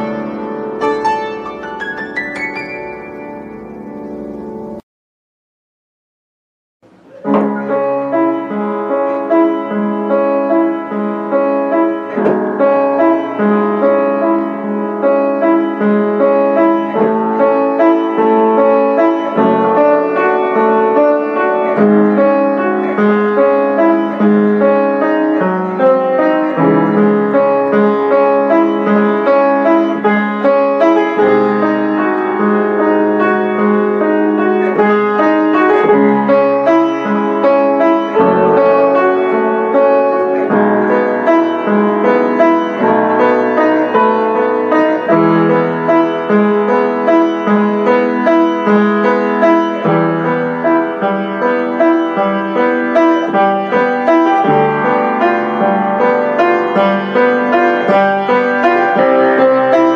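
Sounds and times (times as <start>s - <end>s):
slow solo piano piece: 0.0s - 4.8s, 6.9s - 59.9s.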